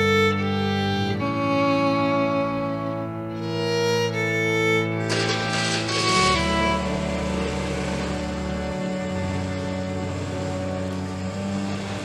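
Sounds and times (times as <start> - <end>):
soft sad background music: 0.0 - 12.0.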